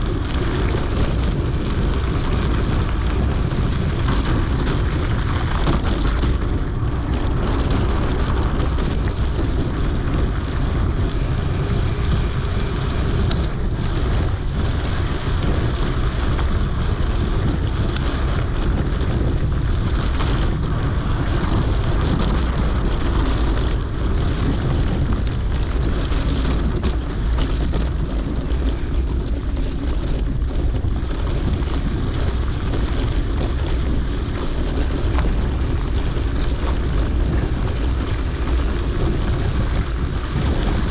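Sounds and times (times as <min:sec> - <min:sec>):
bike clicks and rattles: 0:00.0 - 0:40.9
wind buffeting microphone: 0:00.0 - 0:40.9.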